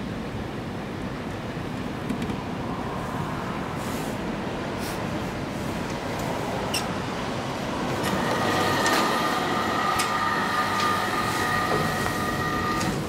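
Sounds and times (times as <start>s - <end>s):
elevator rumble and whine: 2.4s - 13.0s.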